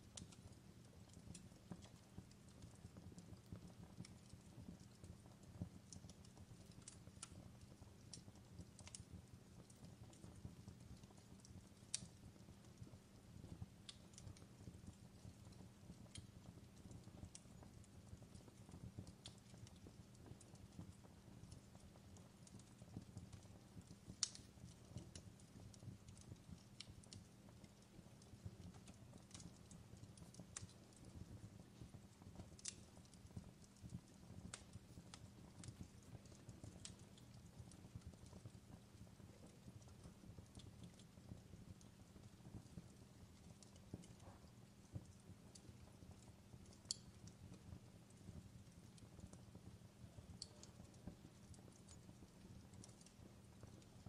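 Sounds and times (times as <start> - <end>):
fireplace crackling: 0.0 - 54.0.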